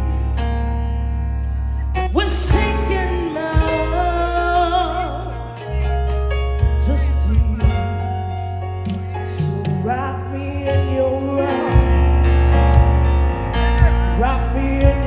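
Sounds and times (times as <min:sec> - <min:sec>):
gospel song with bass and drums: 0:00.0 - 0:15.0.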